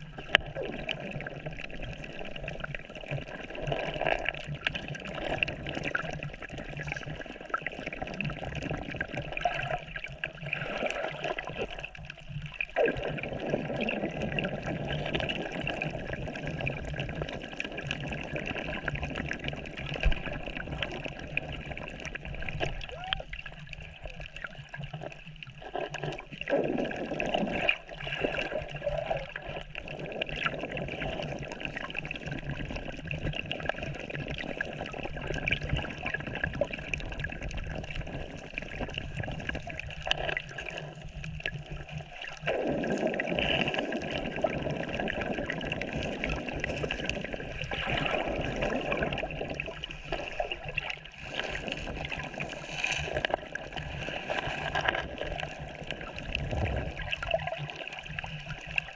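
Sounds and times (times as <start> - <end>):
sea water sloshing and gurgling: 0.0 - 58.9.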